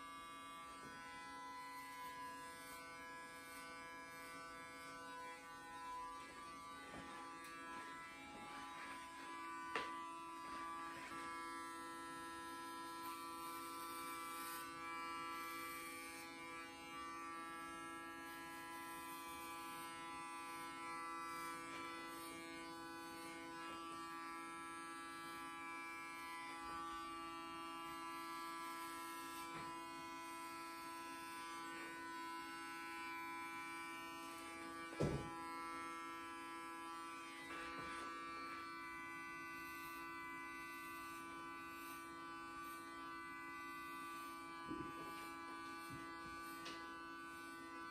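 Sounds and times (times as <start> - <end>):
electric hair clippers buzzing: 0.0 - 47.9.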